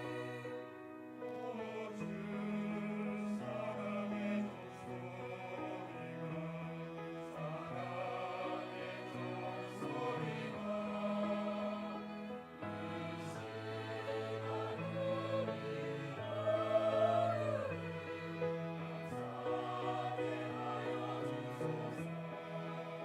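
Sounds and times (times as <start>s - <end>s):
church choir singing a hymn: 0.0s - 23.0s.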